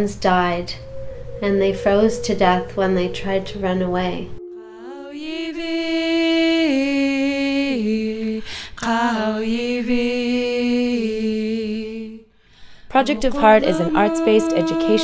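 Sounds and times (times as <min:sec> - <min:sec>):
woman singing unaccompanied: 0:02.0 - 0:12.1, 0:12.9 - 0:15.0.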